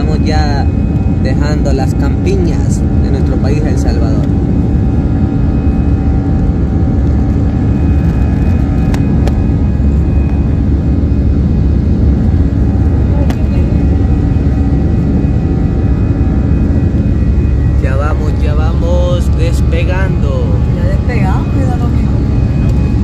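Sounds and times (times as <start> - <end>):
jet engine and airflow noise: 0.0 - 23.0
steady whining tones: 0.0 - 23.0.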